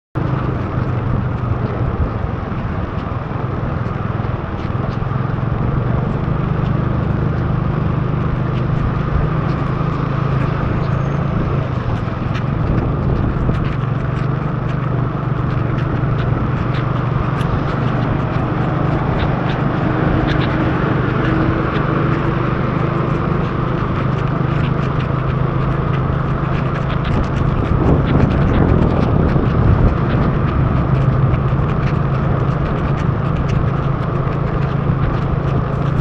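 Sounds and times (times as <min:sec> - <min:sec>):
motorbike engine drone: 0:00.2 - 0:36.0
raindrops ticking on camera: 0:00.2 - 0:36.0.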